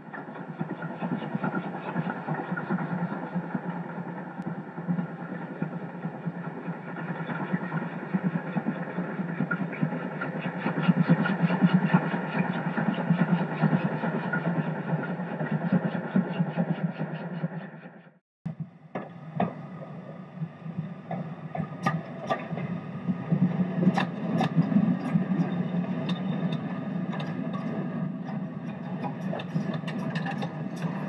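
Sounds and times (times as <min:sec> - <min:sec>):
train running past: 0:00.0 - 0:31.0.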